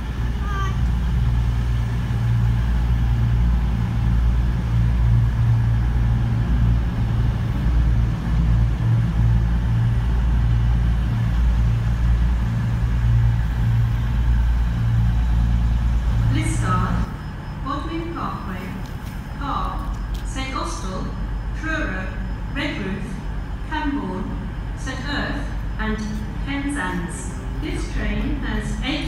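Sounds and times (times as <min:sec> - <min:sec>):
diesel train engine drone: 0:00.0 - 0:29.0.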